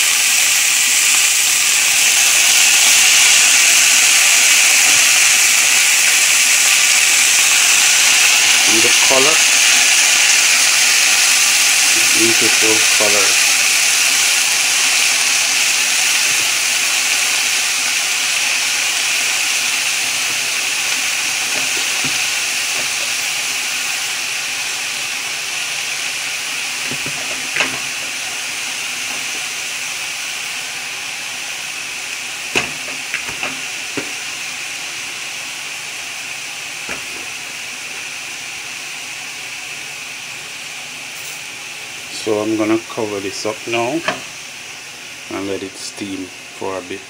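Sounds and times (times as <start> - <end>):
vegetables sizzling in oil: 0.0 - 47.0.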